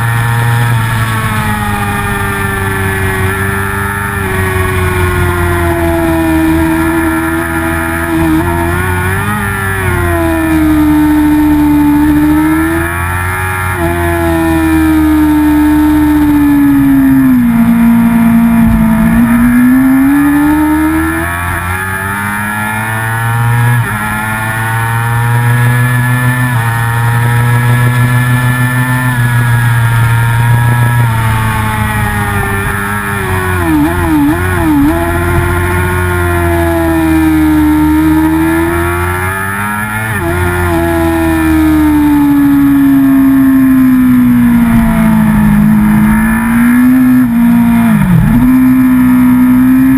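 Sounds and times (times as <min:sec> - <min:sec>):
racing motorcycle engine revving: 0:00.0 - 0:49.9.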